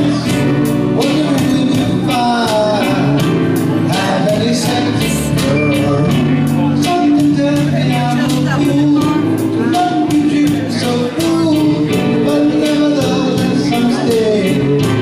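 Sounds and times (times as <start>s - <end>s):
person singing: 0.0s - 15.0s
steady drum beat: 0.0s - 15.0s.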